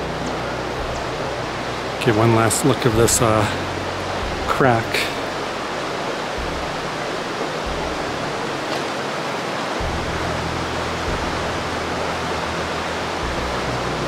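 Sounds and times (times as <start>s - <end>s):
creek water rushing: 0.0s - 14.0s
low background music: 0.0s - 14.0s.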